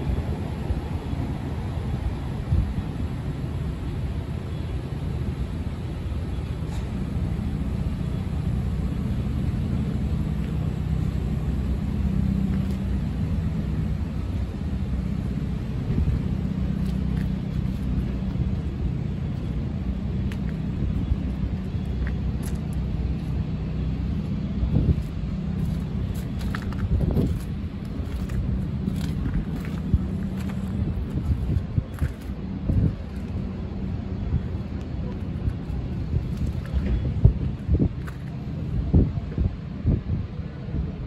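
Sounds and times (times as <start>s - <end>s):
engine rumbling: 0.0s - 41.0s.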